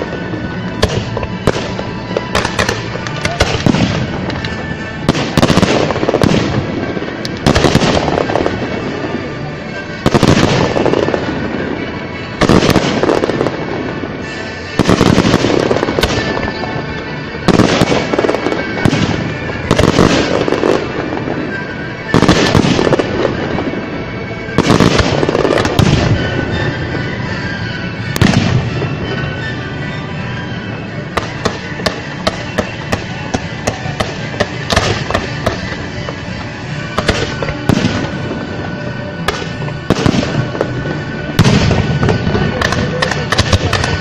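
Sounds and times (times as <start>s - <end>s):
fireworks bursting with loud bangs: 0.0s - 44.0s
music playing: 0.0s - 44.0s.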